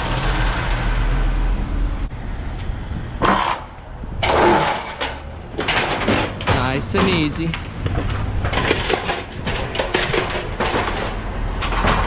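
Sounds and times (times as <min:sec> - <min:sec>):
road noise rumble: 0:00.0 - 0:12.0.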